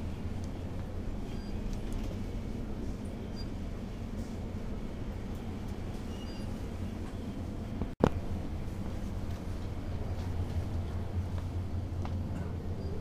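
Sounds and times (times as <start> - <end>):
supermarket ambience rumble: 0.0 - 13.0.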